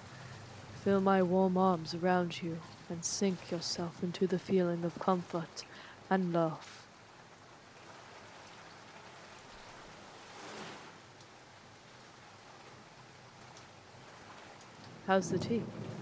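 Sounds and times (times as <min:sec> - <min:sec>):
steady rainfall: 0:00.0 - 0:16.0.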